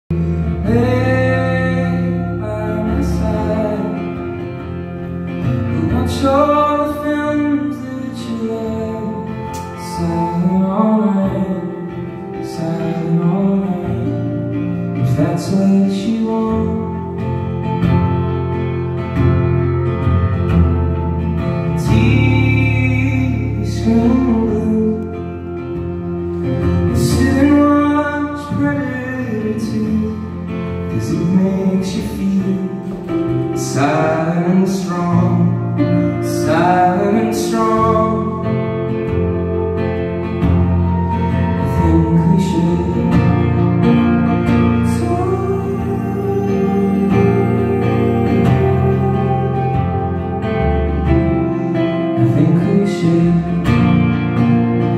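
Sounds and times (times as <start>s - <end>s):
electric bass: 0.0s - 54.9s
man singing lead vocal: 0.1s - 18.3s, 21.4s - 54.9s
electric guitar: 0.1s - 54.9s
strummed acoustic guitar: 0.1s - 54.9s.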